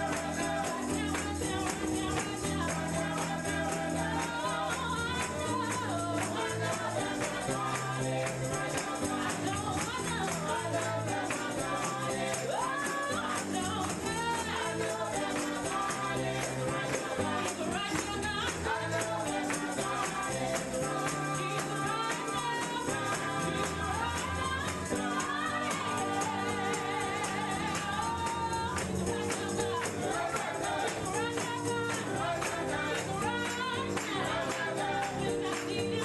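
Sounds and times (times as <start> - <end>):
bass and keyboard chords: 0.0 - 36.0
gospel singing: 0.0 - 36.0
tambourine rhythm: 0.0 - 36.0.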